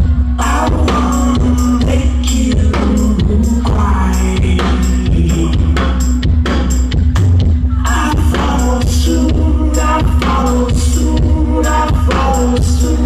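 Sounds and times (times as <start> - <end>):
drum beat: 0.0 - 13.0
heavy bass: 0.0 - 13.0.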